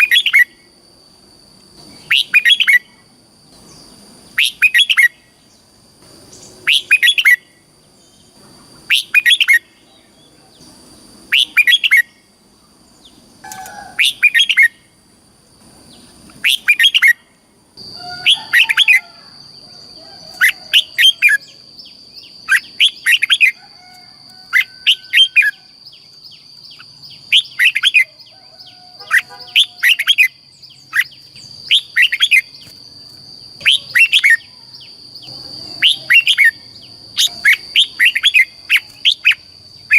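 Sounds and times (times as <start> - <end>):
bulbul singing: 0.0 - 0.7, 1.8 - 15.0, 15.8 - 39.9.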